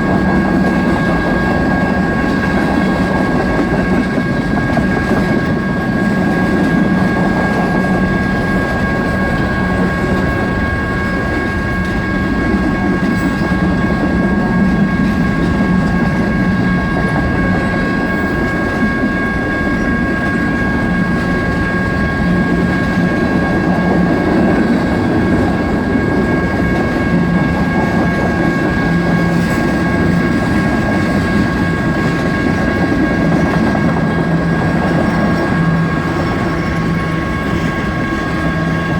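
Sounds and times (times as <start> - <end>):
crossing warning bells ringing: 0.0 - 38.9
train wheels rumbling on rails: 0.0 - 38.9.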